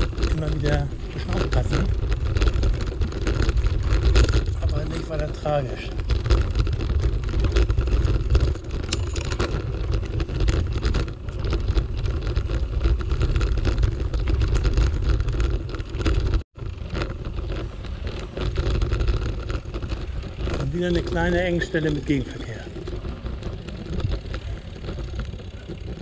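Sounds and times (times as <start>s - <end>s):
bicycle rumbling on dirt path: 0.0s - 26.0s
bike clicks and rattles: 0.0s - 26.0s.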